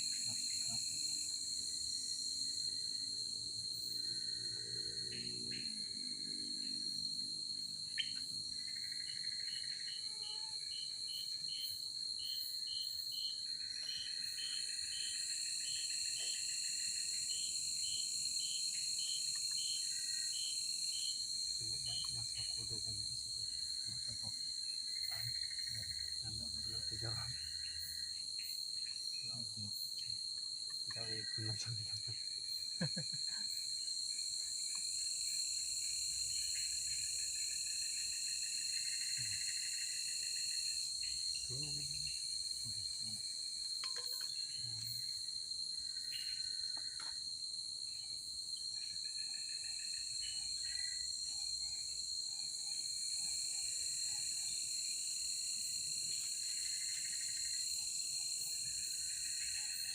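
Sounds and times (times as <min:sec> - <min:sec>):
night insects chirring: 0:00.0 - 0:59.9.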